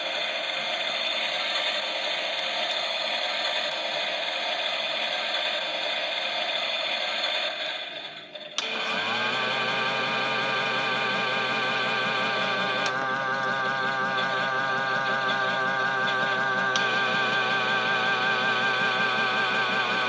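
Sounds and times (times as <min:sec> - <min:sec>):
toy washing machine motor whirring: 0:01.2 - 0:20.0.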